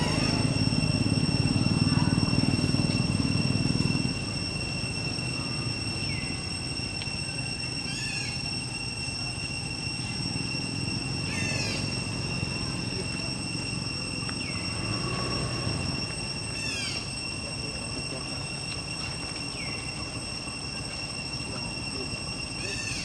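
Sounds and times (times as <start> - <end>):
high-pitched insect drone: 0.0 - 23.0
pitch-sweeping calls: 0.0 - 23.0.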